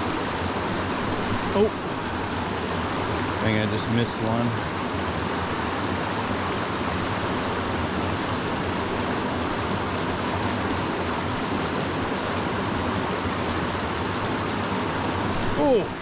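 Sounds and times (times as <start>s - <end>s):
creek rushing over rocks: 0.0s - 16.0s.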